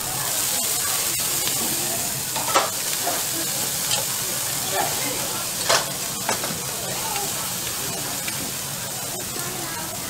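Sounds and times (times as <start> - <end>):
noodles sizzling on a griddle: 0.0 - 10.0.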